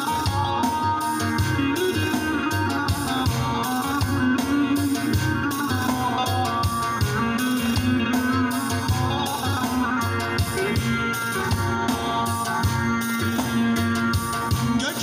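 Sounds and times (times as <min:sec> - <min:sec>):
folk band instrumental: 0:00.0 - 0:15.0.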